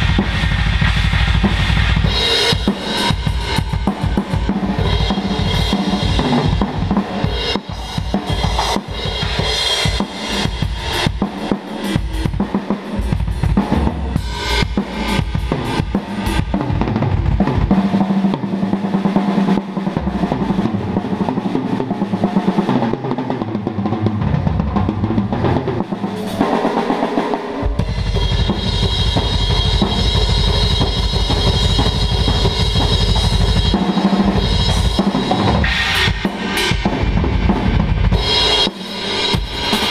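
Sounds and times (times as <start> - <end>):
cymbals: 0.0 - 22.8, 24.4 - 39.9.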